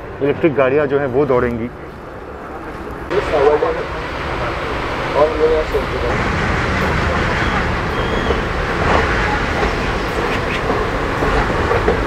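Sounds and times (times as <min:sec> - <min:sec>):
diesel locomotive chugging: 0:00.0 - 0:12.0
train wheels rumbling on rails: 0:01.0 - 0:12.0.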